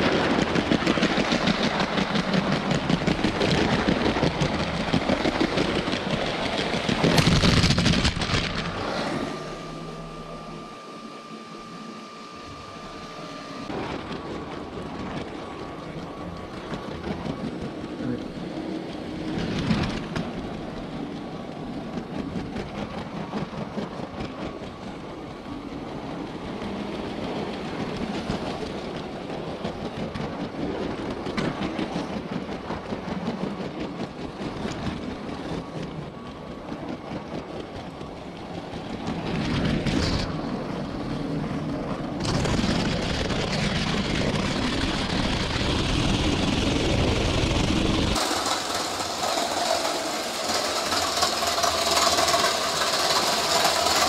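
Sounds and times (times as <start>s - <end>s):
toy train wheels rumbling: 0.0s - 10.6s, 13.0s - 54.0s.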